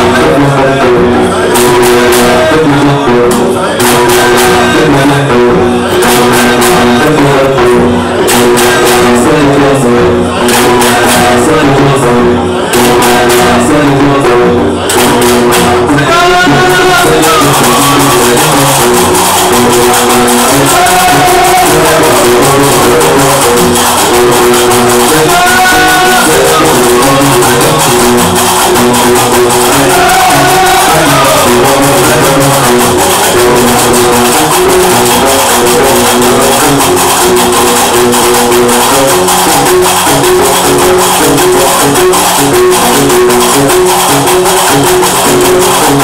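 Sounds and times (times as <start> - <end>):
plucked bass lute: 0.0 - 46.0
voices singing: 0.0 - 46.0.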